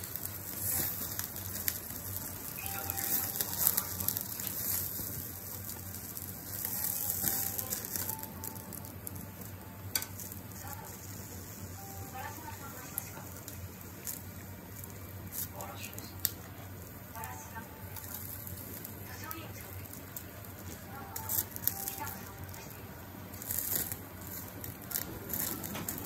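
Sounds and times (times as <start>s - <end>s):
food sizzling and crackling on grill: 0.0s - 26.0s.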